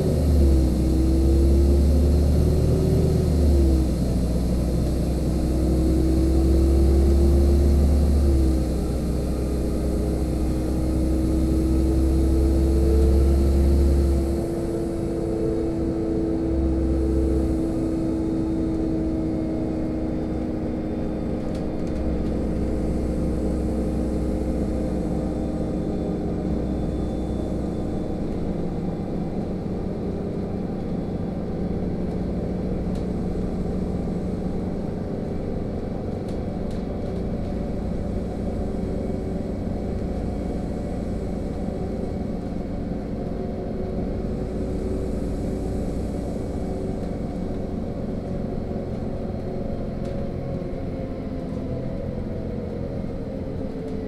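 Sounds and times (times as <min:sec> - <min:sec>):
bus engine and tyre drone: 0:00.0 - 0:54.0.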